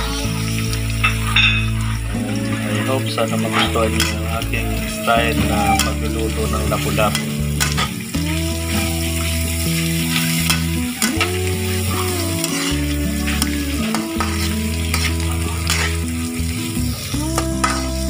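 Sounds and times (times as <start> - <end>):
background music with held chords: 0.0 - 18.0
vegetables sizzling in a pan: 0.0 - 18.0.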